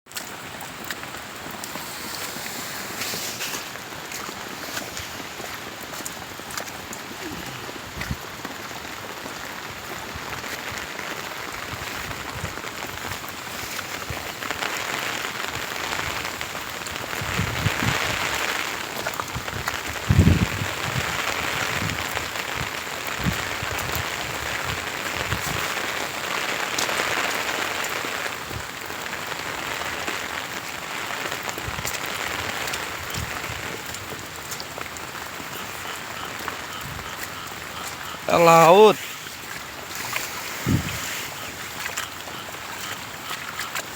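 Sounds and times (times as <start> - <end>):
heavy rain falling: 0.1 - 43.9.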